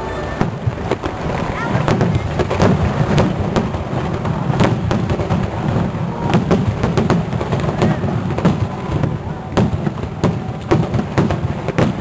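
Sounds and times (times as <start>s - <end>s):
fireworks bangs and cracks: 0.0s - 12.0s
low rumble of detonations: 0.0s - 12.0s.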